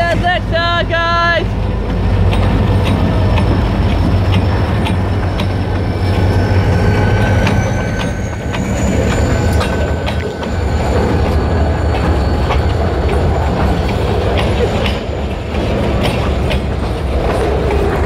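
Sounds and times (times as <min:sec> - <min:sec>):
freight train rumble: 0:00.0 - 0:18.0
wheels clicking over rail joints: 0:00.0 - 0:18.0
high wheel squeal: 0:01.4 - 0:18.0.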